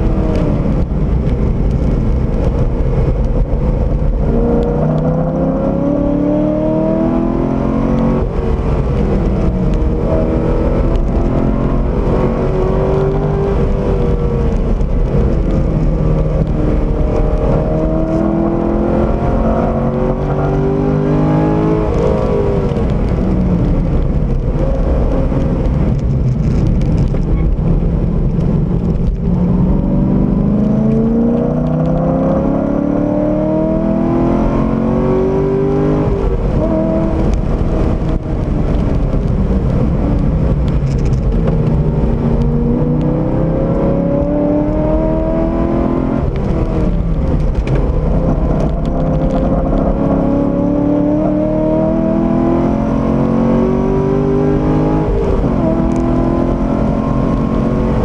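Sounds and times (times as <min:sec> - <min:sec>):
car engine accelerating: 0:00.0 - 0:58.0
tyre and wind noise: 0:00.0 - 0:58.0.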